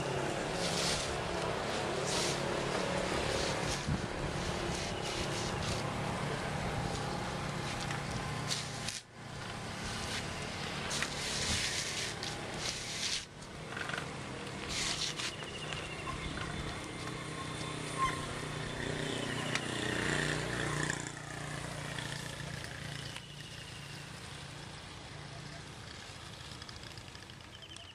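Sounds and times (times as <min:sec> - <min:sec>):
vehicle passing: 0:00.0 - 0:23.2
distant traffic: 0:00.0 - 0:27.9.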